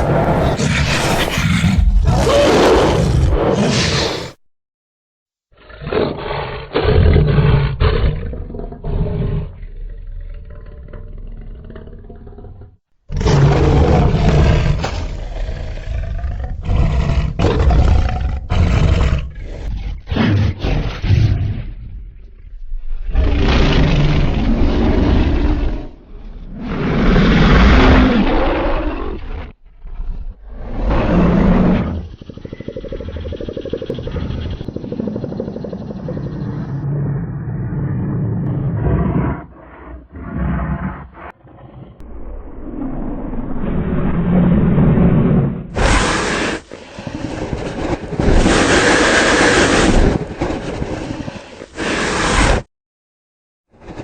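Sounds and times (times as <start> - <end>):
creature roaring: 0.0 - 4.4, 5.6 - 21.6, 23.0 - 52.6
low pulsing monster growl: 5.6 - 51.8.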